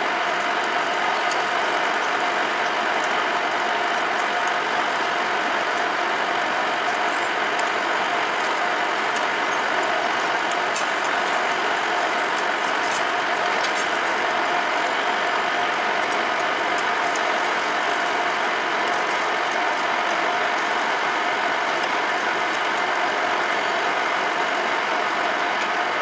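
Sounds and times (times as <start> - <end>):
metal lathe drone and whine: 0.0 - 26.0.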